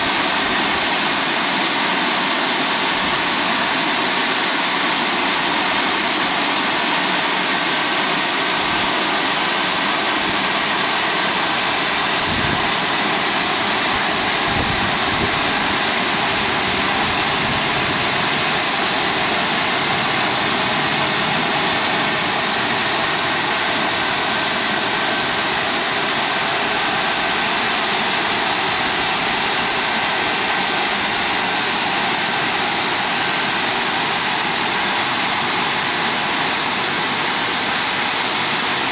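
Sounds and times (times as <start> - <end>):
car wash brushes rushing: 0.0 - 38.2.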